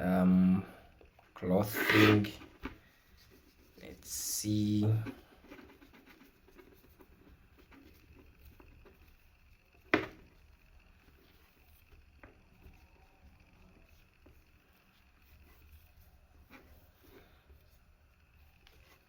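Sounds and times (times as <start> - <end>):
wiping phone screen: 1.4 - 19.0.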